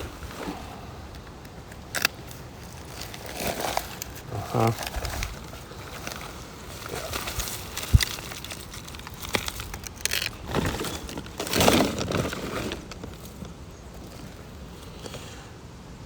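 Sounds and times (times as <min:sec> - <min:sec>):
litter rustling and crinkling: 0:00.0 - 0:15.4.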